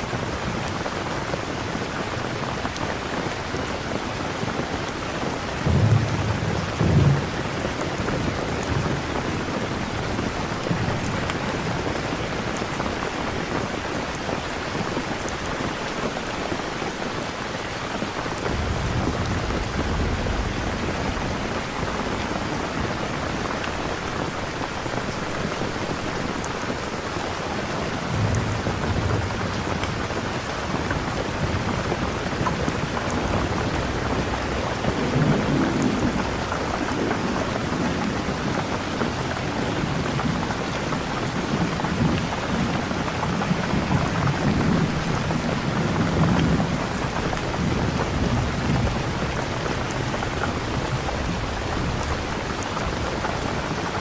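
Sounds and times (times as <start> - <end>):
heavy rain: 0.0 - 54.0
thunder rumbling: 3.9 - 13.0, 18.0 - 53.8.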